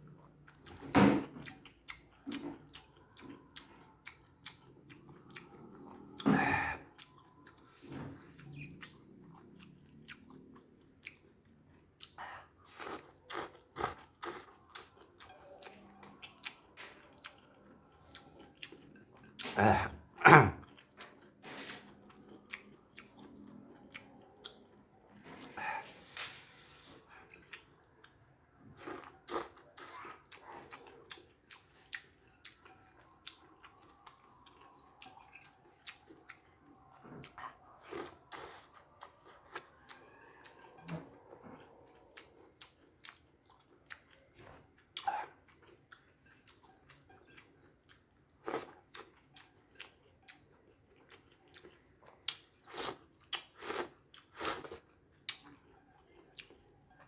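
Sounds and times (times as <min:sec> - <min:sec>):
close-up chewing noodles: 0:00.0 - 0:57.0.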